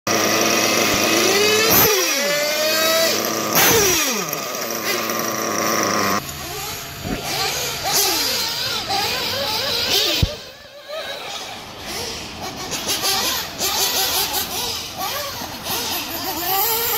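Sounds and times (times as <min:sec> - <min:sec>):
model car engine idling: 0:00.1 - 0:16.9
model cars revving and whining: 0:00.1 - 0:16.9.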